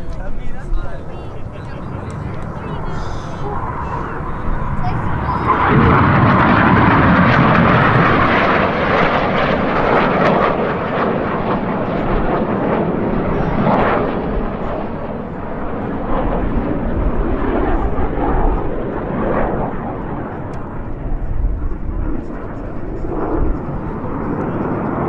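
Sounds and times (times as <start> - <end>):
jet engines overhead: 0.0 - 25.0.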